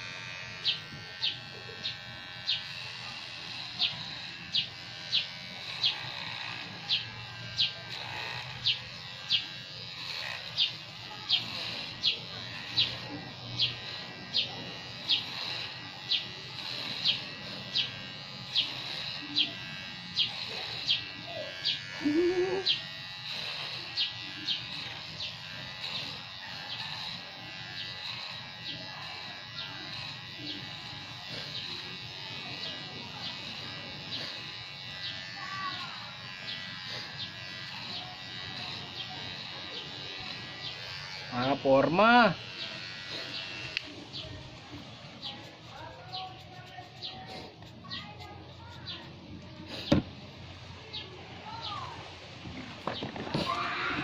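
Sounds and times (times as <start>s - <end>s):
electric hair clipper buzzing: 0.0s - 54.0s.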